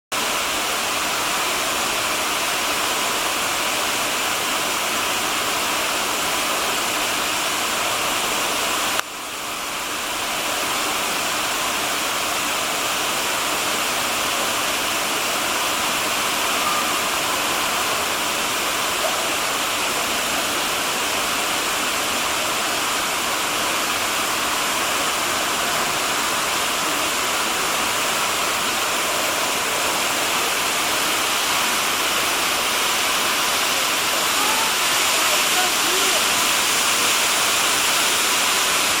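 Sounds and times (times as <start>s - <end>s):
waterfall rushing: 0.1s - 39.0s.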